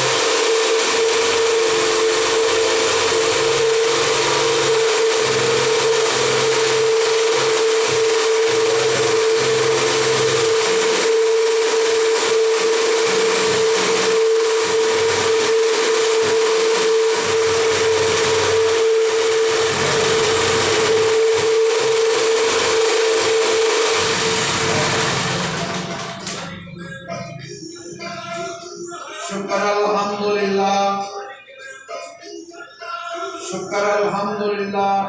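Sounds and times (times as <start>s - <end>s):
petrol generator running: 0.0s - 28.4s.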